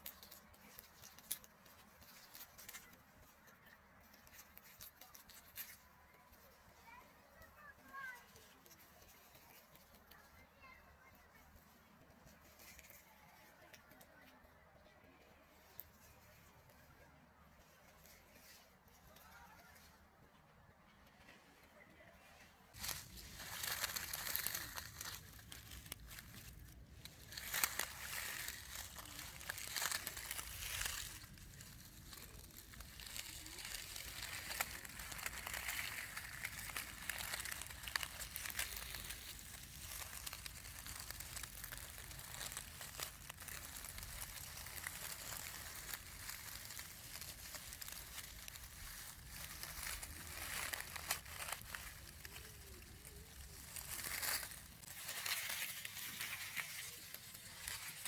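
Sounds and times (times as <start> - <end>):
dry grass rustling and crinkling: 0.0 - 58.0.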